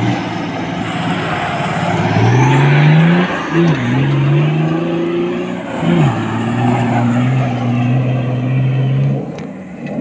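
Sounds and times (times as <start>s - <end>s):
engine running at high revs: 0.0s - 10.0s.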